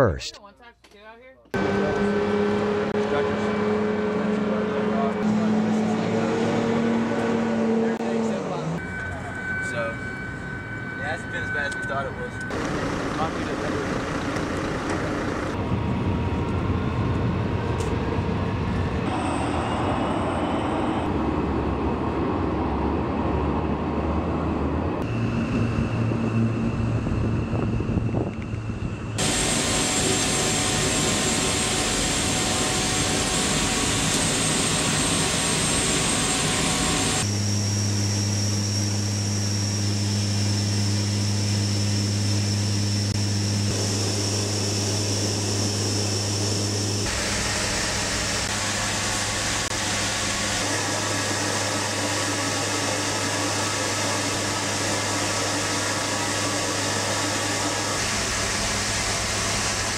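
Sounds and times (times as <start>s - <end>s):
turboprop engines droning: 1.6s - 59.9s.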